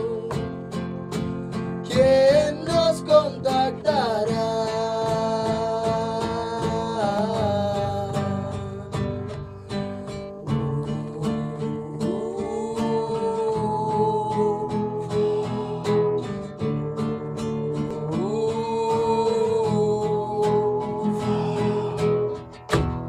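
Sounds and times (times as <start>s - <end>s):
person singing wordlessly: 0.0s - 1.0s, 1.8s - 22.6s
strummed acoustic guitar: 0.0s - 23.0s.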